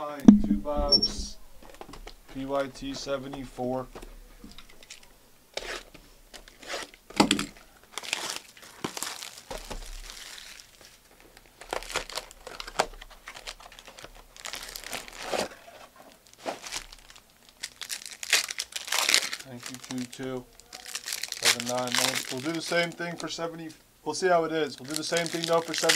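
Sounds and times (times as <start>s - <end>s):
plastic wrap crinkling and tearing: 1.5s - 23.4s, 24.6s - 25.9s.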